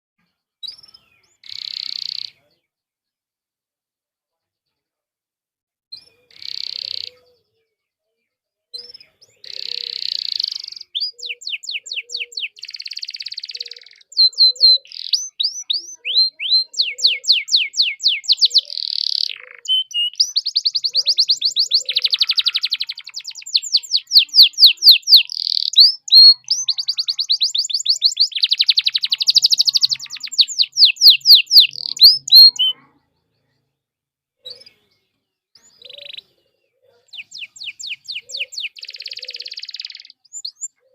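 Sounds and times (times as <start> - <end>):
canary singing trills: 0.6 - 2.6, 6.0 - 7.7, 8.8 - 33.7, 34.4 - 40.9.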